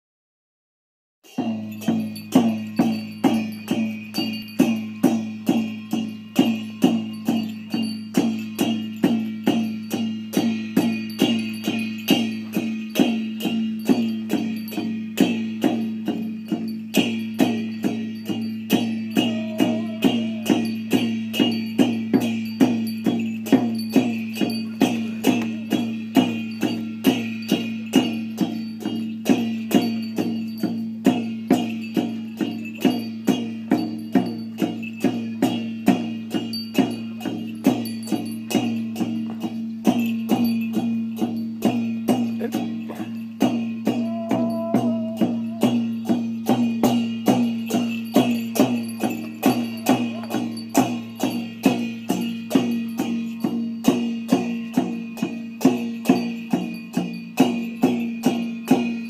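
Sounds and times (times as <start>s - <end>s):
drum and cymbals beating: 1.2s - 59.0s.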